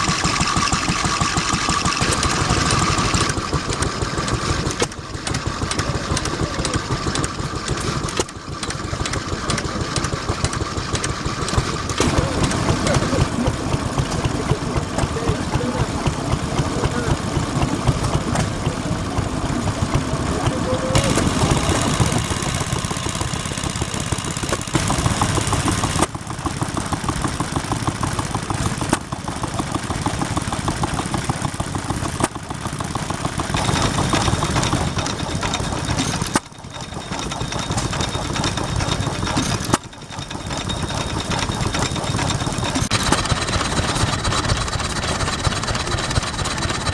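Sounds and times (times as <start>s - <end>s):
stationary engines running: 0.0s - 46.9s.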